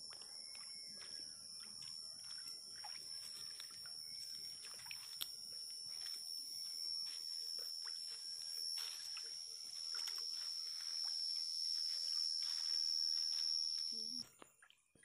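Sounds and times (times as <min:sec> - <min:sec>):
insects trilling: 0:00.0 - 0:14.2.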